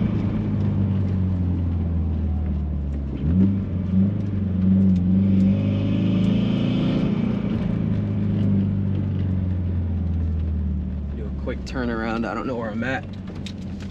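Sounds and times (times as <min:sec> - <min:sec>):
car engine droning: 0:00.0 - 0:13.9.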